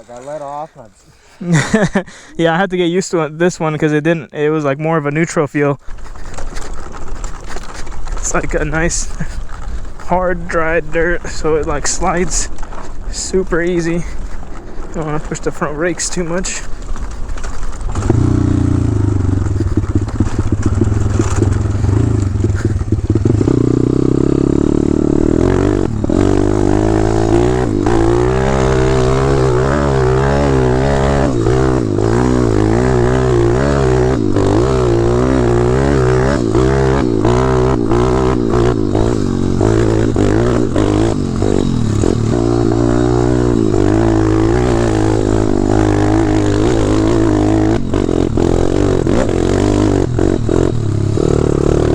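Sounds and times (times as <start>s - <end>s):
dirt bike engine revving: 6.8s - 51.9s.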